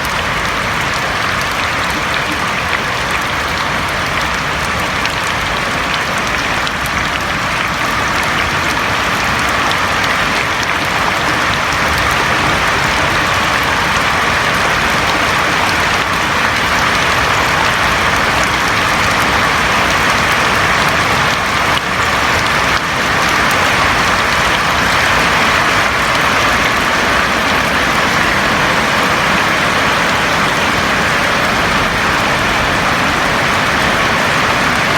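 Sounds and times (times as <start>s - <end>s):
heavy rain on a roof: 0.0s - 34.9s.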